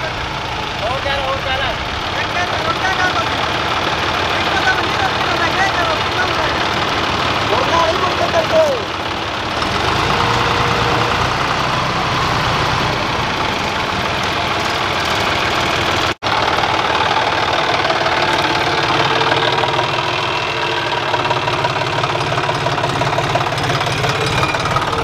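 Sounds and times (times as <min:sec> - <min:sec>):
diesel tractor engines idling: 0:00.0 - 0:25.0.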